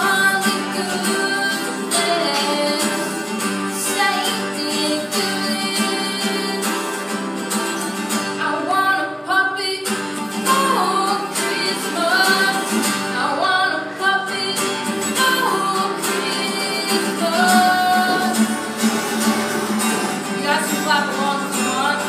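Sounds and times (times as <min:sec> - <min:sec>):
boy singing: 0:00.0 - 0:06.9, 0:08.4 - 0:18.6, 0:20.2 - 0:22.0
acoustic guitar: 0:00.0 - 0:22.0.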